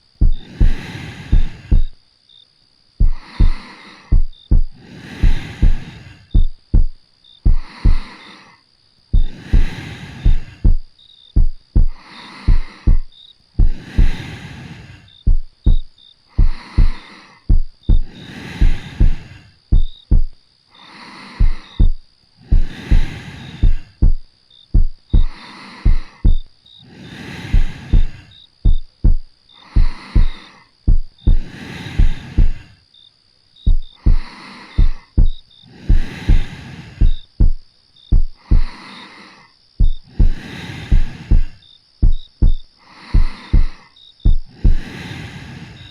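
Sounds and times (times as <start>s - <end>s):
soft slow breathing: 0.0s - 2.0s, 3.0s - 32.9s, 33.6s - 45.9s
heartbeat thumps: 0.1s - 2.0s, 3.0s - 8.1s, 9.1s - 14.3s, 15.2s - 20.4s, 21.4s - 26.5s, 27.5s - 32.7s, 33.6s - 38.8s, 39.8s - 44.9s.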